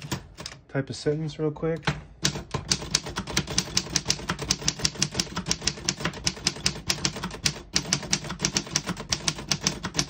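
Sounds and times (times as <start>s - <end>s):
typewriter typing: 0.0s - 0.6s, 2.2s - 10.0s.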